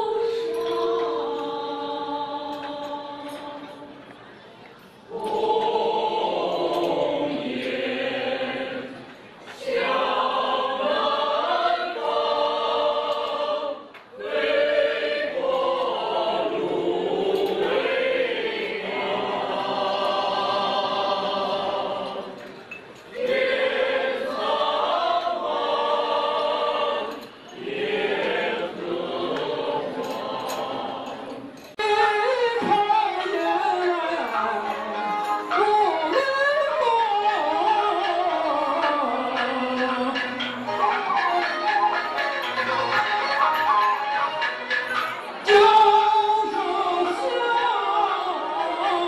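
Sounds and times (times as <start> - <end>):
mixed choir singing: 0.0 - 4.4, 5.0 - 49.0.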